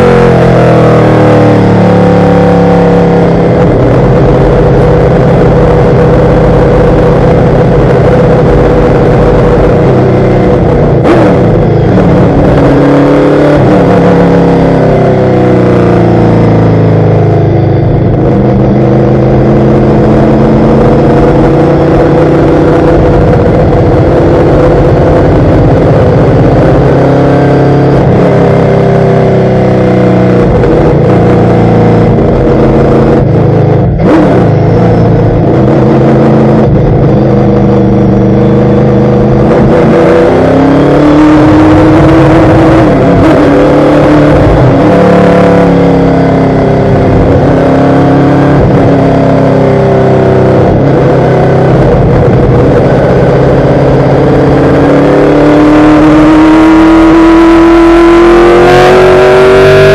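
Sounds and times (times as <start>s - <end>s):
race car engine from cockpit: 0.0s - 59.9s.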